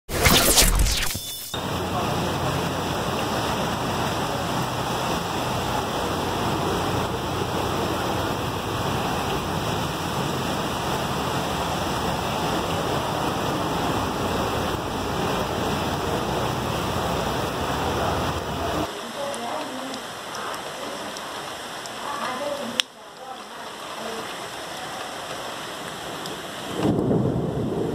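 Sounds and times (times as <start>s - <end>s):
heavy rain pouring: 0.1s - 27.9s
vehicles splashing through water: 1.6s - 26.6s.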